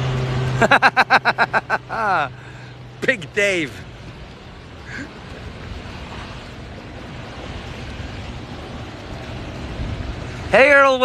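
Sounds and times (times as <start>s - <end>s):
low rumble: 0.0s - 10.6s
steady rushing noise: 0.0s - 11.0s.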